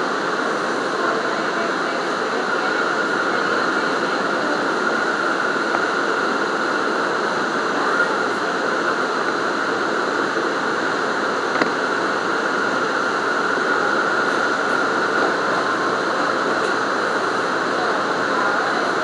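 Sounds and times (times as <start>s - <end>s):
subway train rumble and rail noise: 0.0s - 19.0s.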